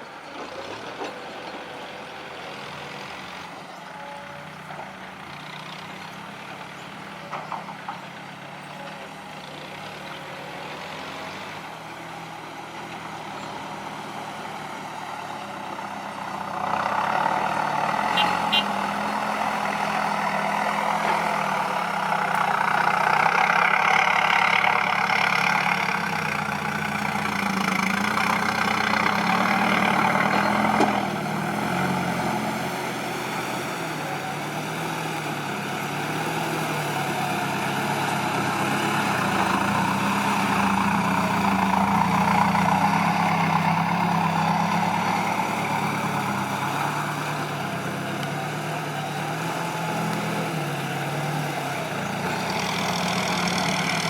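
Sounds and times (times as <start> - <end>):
heavy diesel engine working: 0.0 - 54.0.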